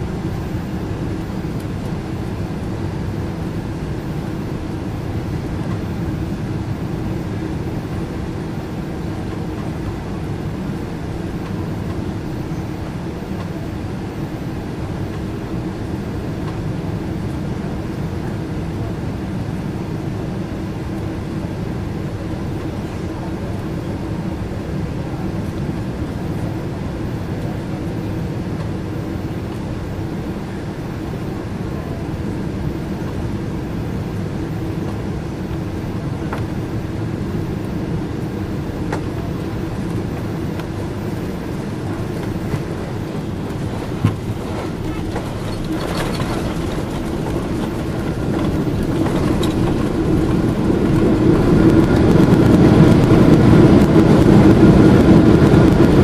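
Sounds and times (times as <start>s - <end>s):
airflow rushing in cabin: 0.0s - 56.0s
jet engines humming: 0.0s - 56.0s.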